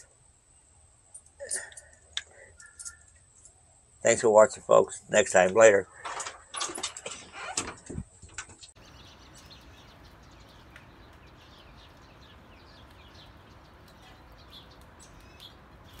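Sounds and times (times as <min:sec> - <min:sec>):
small birds chirping: 0:00.0 - 0:06.5, 0:07.1 - 0:16.0
steady outdoor hiss: 0:00.0 - 0:16.0.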